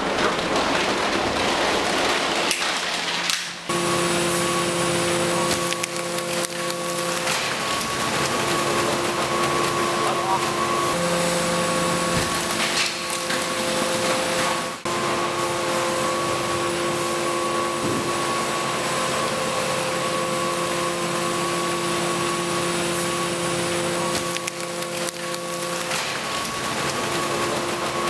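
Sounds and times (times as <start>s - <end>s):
industrial machinery hum: 0.0s - 28.0s.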